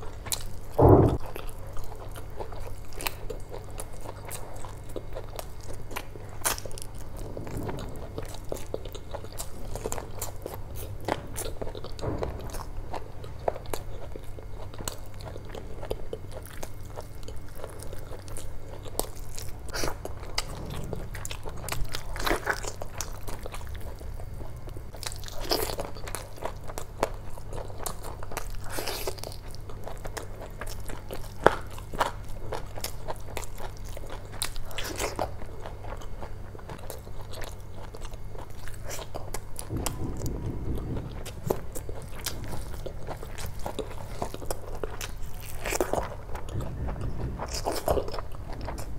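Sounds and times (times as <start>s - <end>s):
wet chewing and biting: 8.1s - 48.9s.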